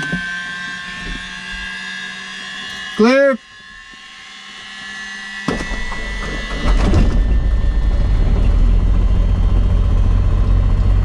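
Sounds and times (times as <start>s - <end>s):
aircraft piston engine running: 0.0s - 11.0s.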